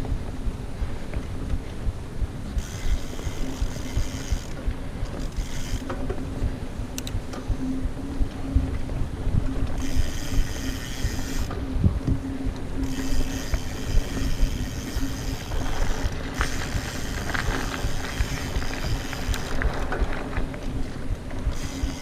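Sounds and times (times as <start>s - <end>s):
bike tyres rumbling on trail: 0.0s - 22.0s
steady hum: 0.0s - 22.0s
bike frame rattling: 2.5s - 8.9s, 9.6s - 22.0s.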